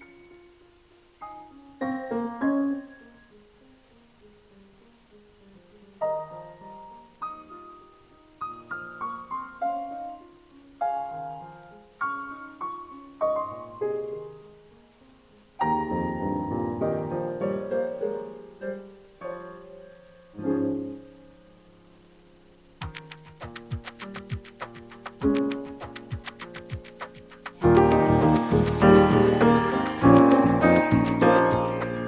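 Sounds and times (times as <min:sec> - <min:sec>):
slow piano melody: 0:00.0 - 0:32.0.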